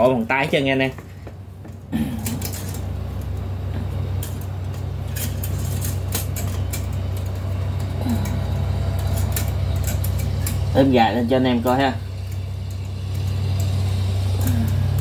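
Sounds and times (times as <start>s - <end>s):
engine running low rumble: 0.0s - 15.0s.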